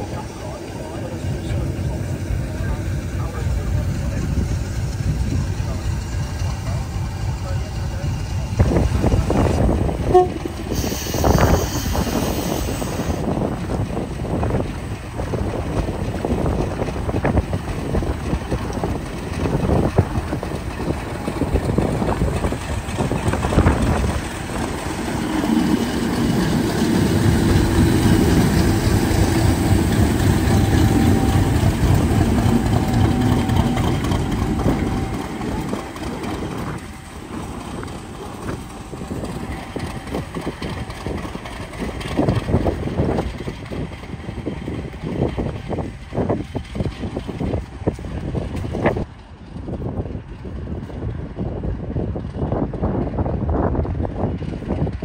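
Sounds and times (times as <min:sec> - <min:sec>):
diesel locomotive engine droning: 0:00.0 - 0:55.0.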